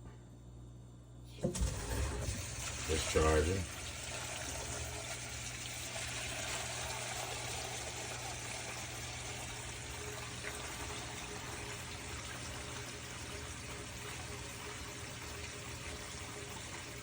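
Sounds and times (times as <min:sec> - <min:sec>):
water rushing from pump: 0:01.4 - 0:17.0.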